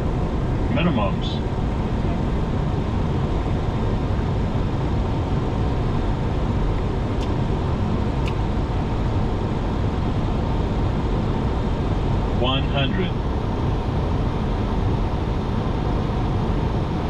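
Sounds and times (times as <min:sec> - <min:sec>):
aircraft engine noise: 0:00.0 - 0:17.0.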